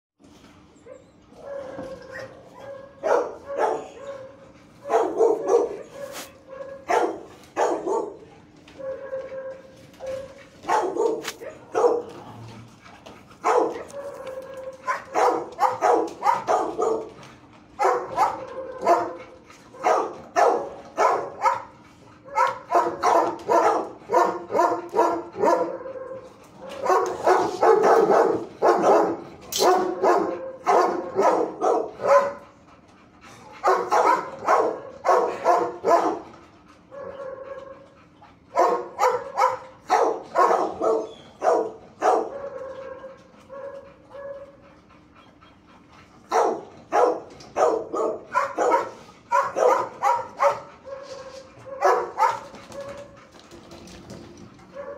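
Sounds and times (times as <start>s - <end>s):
dogs barking: 0.8s - 12.4s, 13.0s - 53.5s, 54.6s - 54.9s.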